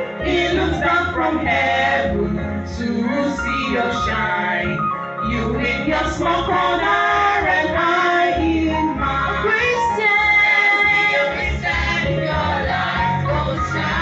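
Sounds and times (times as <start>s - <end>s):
choir singing a hymn: 0.0s - 14.0s.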